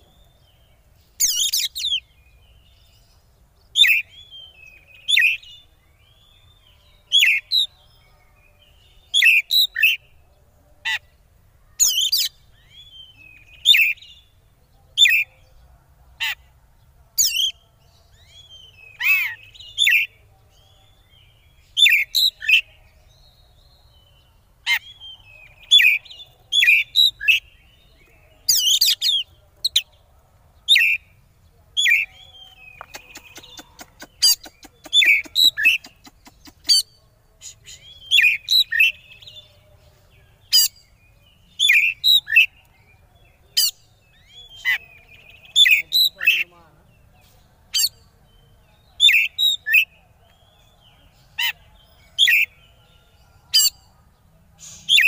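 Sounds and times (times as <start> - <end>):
bird singing scratchy chatter: 0.0 - 55.0.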